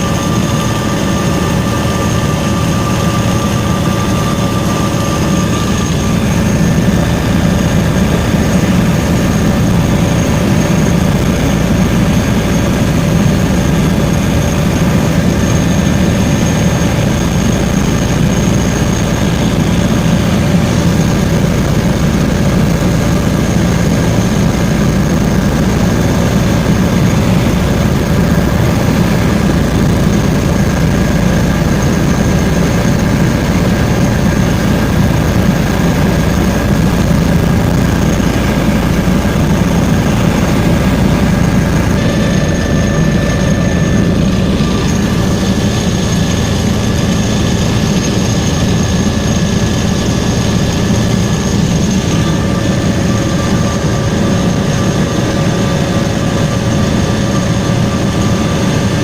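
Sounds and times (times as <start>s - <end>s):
helicopter engine and rotor drone: 0.0s - 59.0s
high turbine whine: 0.0s - 59.0s.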